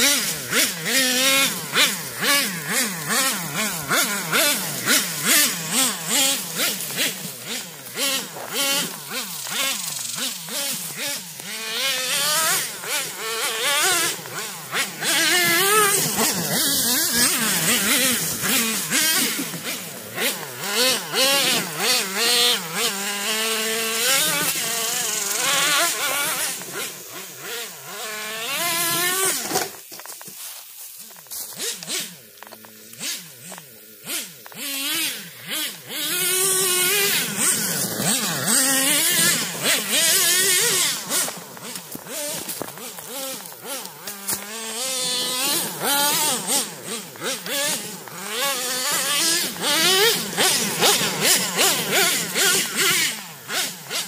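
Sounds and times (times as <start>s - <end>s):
nitro engine revving: 0.0s - 54.0s.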